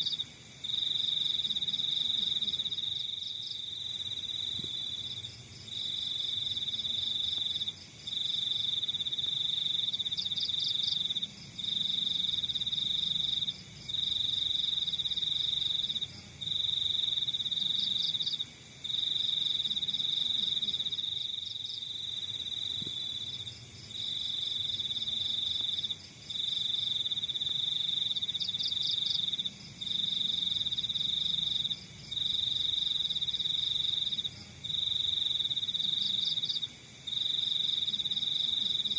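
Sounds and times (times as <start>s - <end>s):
cricket trilling: 0.0s - 38.9s
faint cricket chirps: 0.0s - 38.9s.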